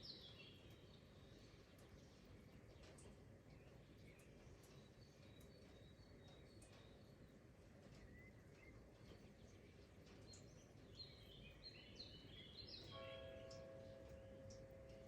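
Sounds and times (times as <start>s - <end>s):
rain patter: 0.6s - 15.0s.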